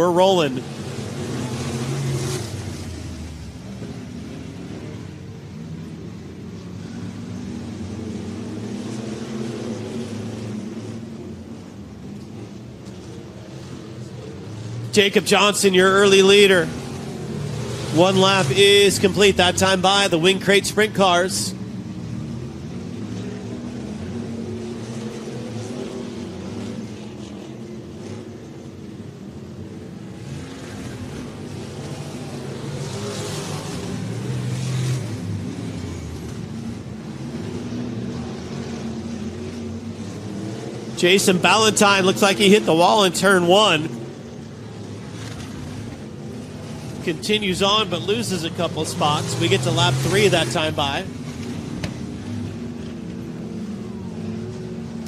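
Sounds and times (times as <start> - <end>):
distant race car engines droning: 0.0 - 55.0.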